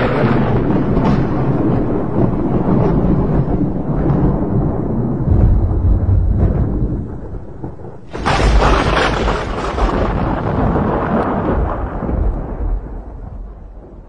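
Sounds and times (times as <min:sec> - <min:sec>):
sharp thunderclap: 0:00.0 - 0:14.0
thunder rumbling: 0:00.0 - 0:14.0.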